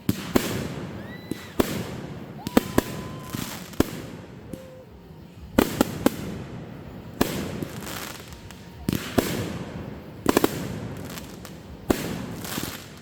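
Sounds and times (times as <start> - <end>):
fireworks bangs: 0.0 - 13.0
fireworks crackling: 0.0 - 13.0
fireworks whistling: 0.0 - 13.0.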